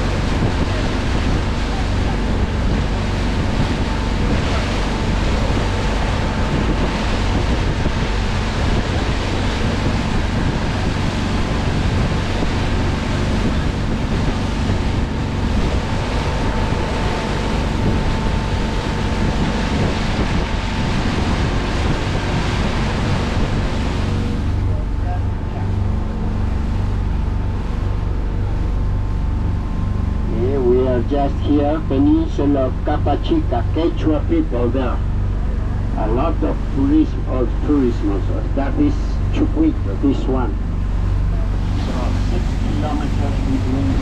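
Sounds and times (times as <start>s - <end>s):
boat engine drone: 0.0s - 44.0s
wind buffeting microphone: 0.0s - 44.0s.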